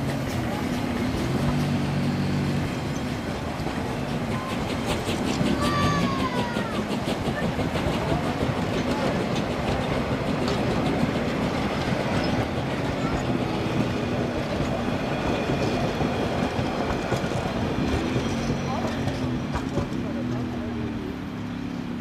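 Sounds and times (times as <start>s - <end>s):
train wheels rolling on rails: 0.0s - 22.0s.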